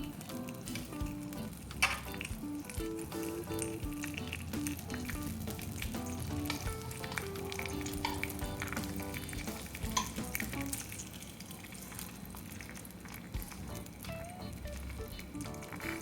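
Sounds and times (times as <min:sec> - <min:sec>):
cheerful background melody: 0:00.0 - 0:10.9, 0:13.4 - 0:16.0
food sizzling in a frying pan: 0:00.0 - 0:16.0.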